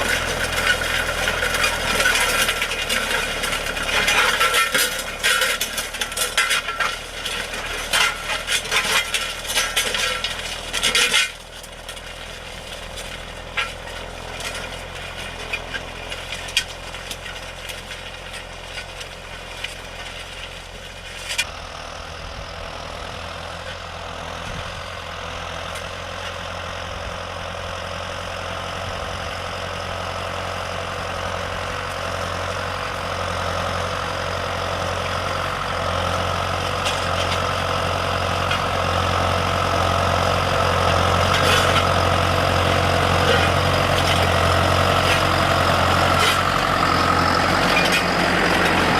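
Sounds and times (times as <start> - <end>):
tractor engine: 0.0 - 48.9.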